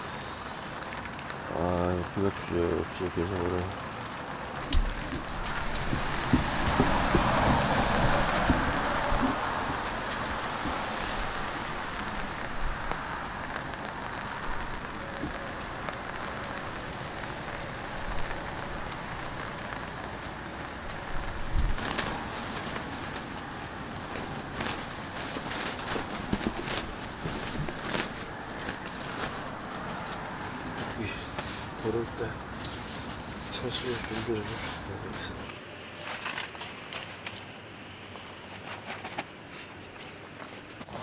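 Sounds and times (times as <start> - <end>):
heavy raindrops tapping: 0.0 - 35.6
steady rain hiss: 0.0 - 41.0.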